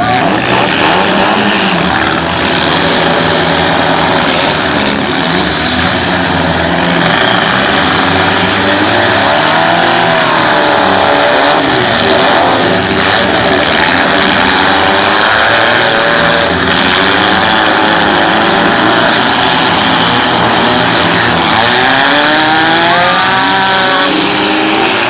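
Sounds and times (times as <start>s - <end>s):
car engines revving loudly: 0.0s - 25.0s.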